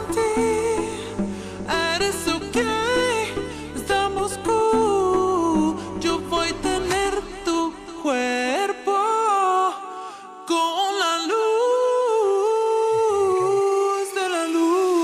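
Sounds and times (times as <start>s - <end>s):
person singing wordless melody: 0.0s - 15.0s.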